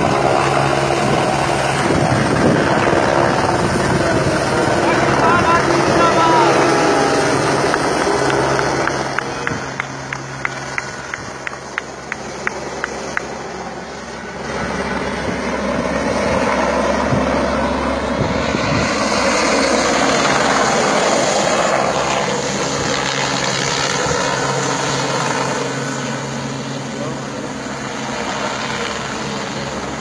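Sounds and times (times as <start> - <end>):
helicopter rotor and engine: 0.0 - 30.0.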